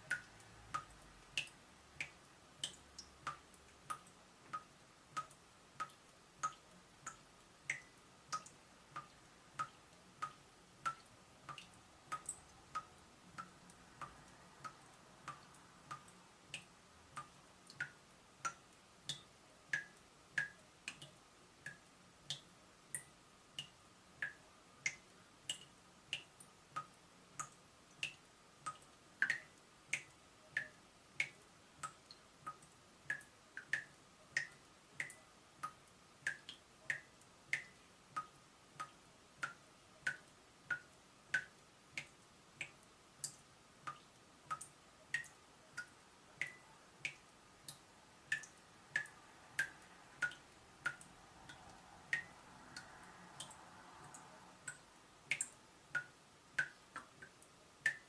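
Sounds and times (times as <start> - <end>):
water drops dripping from tap: 0.0 - 58.0.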